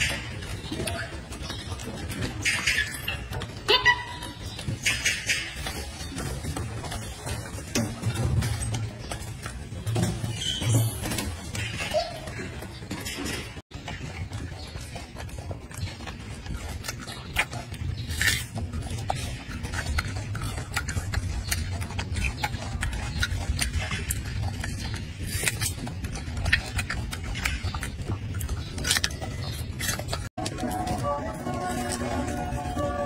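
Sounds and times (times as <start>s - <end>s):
monkey chewing crisp fruit: 0.0s - 33.0s.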